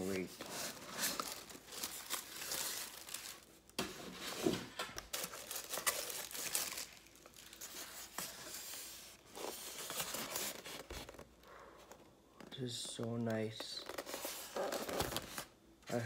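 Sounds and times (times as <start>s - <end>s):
paper wrapping crinkling and tearing: 0.0s - 16.0s.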